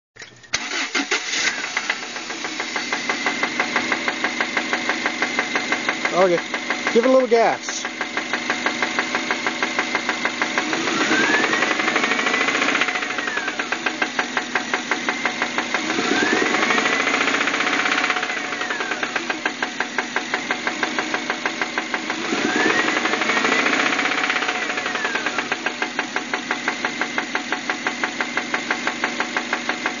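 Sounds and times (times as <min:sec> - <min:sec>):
car engine knocking and revving: 0:01.5 - 0:30.0.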